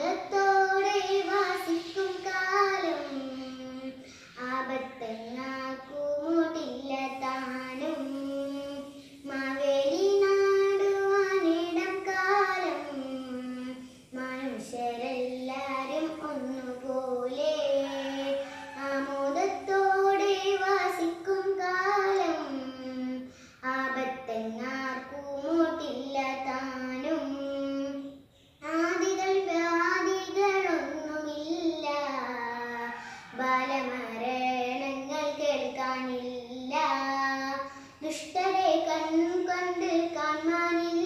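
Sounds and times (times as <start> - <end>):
girl singing unaccompanied: 0.0 - 41.0.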